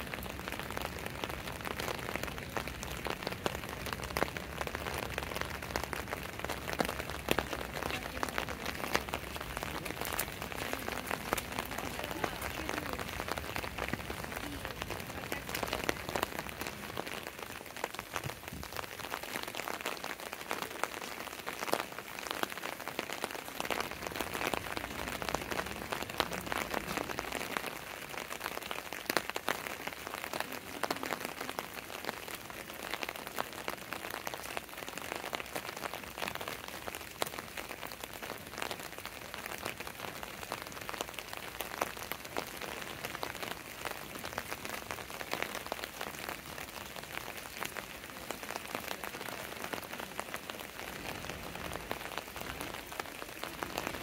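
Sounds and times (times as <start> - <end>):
raindrops hitting close by: 0.0 - 54.0
steady rain falling: 0.0 - 54.0.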